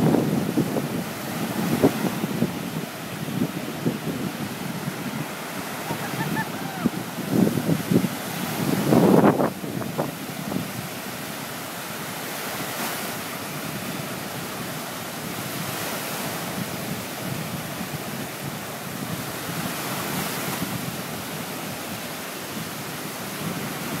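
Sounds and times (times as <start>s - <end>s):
small waves breaking on shore: 0.0s - 24.0s
wind on microphone: 0.0s - 24.0s.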